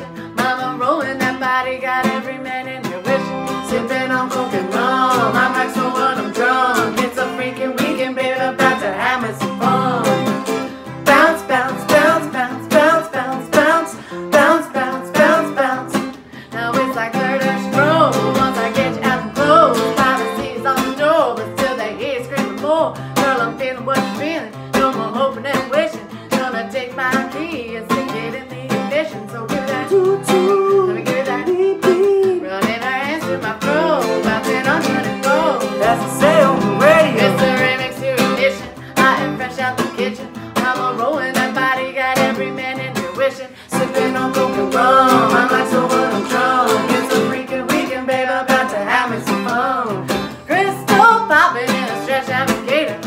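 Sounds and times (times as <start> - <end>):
acoustic guitar strumming: 0.0 - 53.0
people singing: 0.4 - 32.1, 32.7 - 53.0.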